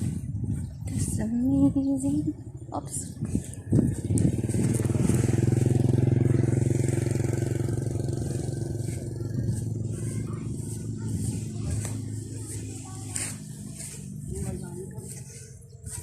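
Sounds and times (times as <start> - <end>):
small engine running: 3.2 - 16.0.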